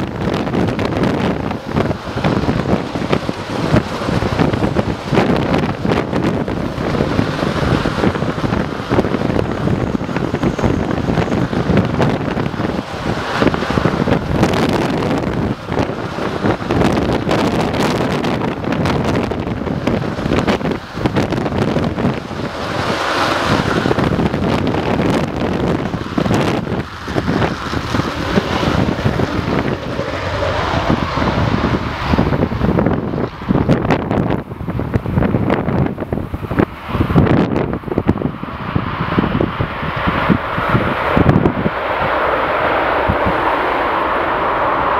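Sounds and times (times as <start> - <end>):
jet roar with crackling: 0.0 - 44.9.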